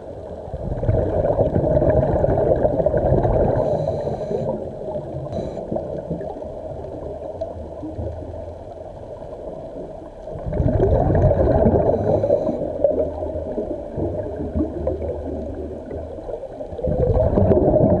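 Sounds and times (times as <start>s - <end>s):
underwater bubbles gurgling: 0.0s - 18.0s.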